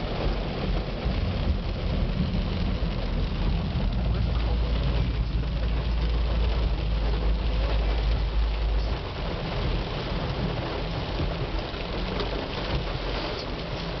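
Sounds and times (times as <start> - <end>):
heavy rain on a car: 0.0 - 14.0
low rumble: 0.0 - 14.0.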